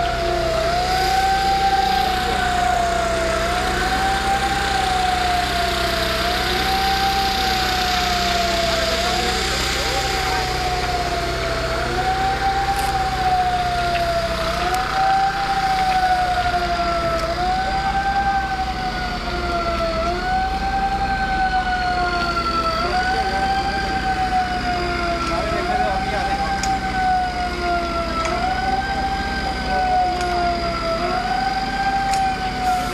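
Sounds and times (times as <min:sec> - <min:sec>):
emergency siren wailing: 0:00.0 - 0:32.9
steady low hum: 0:00.0 - 0:32.9.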